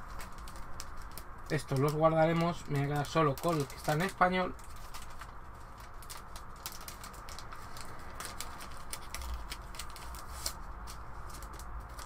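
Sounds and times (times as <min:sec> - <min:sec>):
cardboard cards being sorted: 0:00.0 - 0:12.0.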